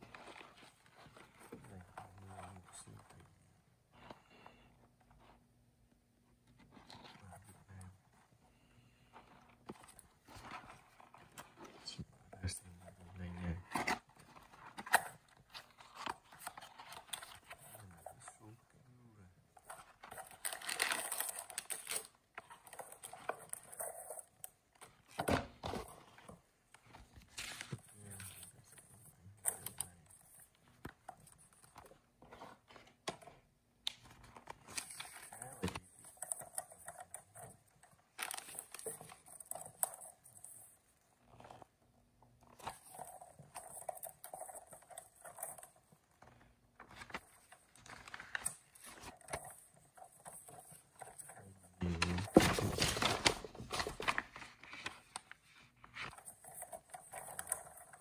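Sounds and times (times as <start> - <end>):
paper rustling and crinkling: 0.0 - 3.3, 8.5 - 18.6, 19.6 - 41.7, 42.4 - 58.0.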